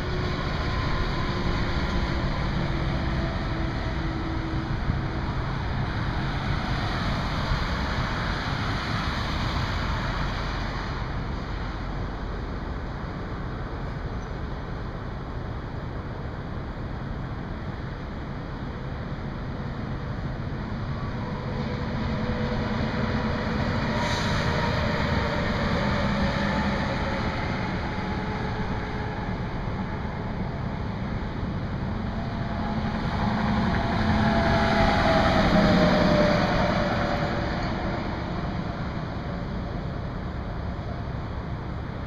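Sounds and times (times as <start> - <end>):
vehicles passing on highway: 0.0 - 42.0.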